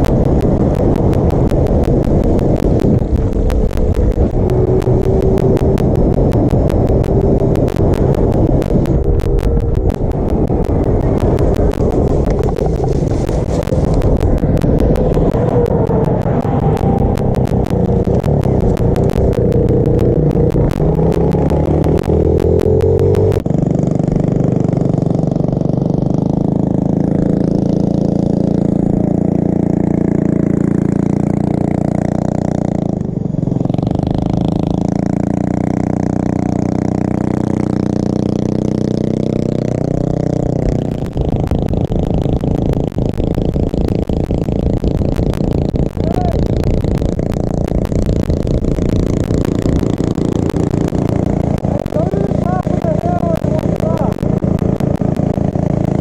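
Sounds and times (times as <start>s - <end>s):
small motorbike engine revving: 0.0s - 56.0s.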